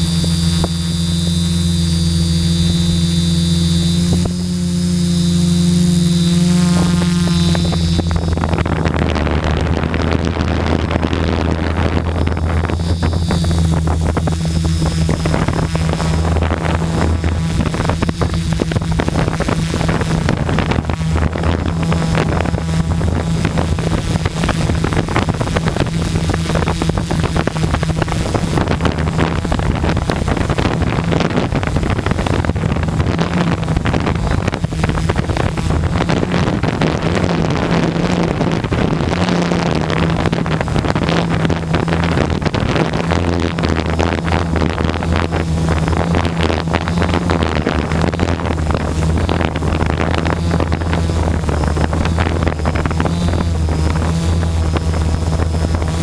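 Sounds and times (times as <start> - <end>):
high motor whine: 0.0 - 56.0
quadcopter motors humming: 0.0 - 56.0
wind buffeting microphone: 0.0 - 56.0.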